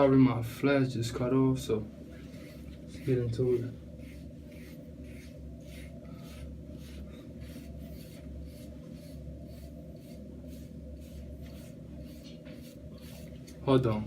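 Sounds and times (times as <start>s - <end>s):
steady low hum: 0.0s - 14.0s
hard brush swishing over hair: 2.1s - 13.8s.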